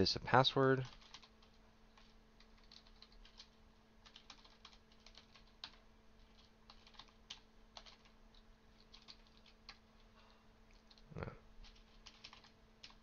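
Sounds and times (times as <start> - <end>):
faint steady hum: 0.0 - 13.0
keyboard typing: 0.8 - 10.0, 10.7 - 13.0.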